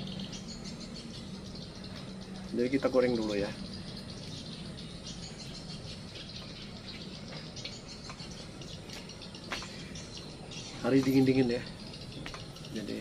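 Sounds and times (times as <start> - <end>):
faint chirps and ticks: 0.0 - 13.0.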